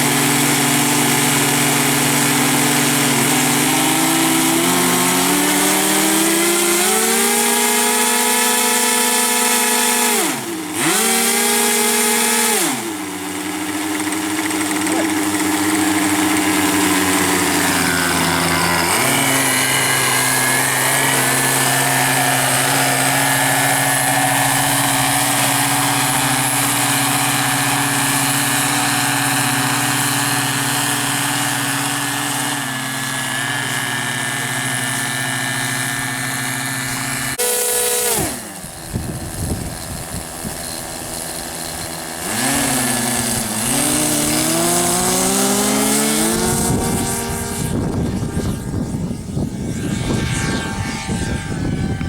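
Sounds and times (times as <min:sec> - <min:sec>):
model aircraft engines running: 0:00.0 - 0:52.0.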